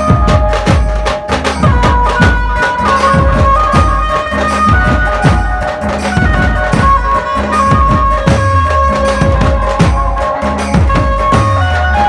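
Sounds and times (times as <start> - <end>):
large drums beating: 0.0 - 12.0
melody of held notes: 0.0 - 12.0.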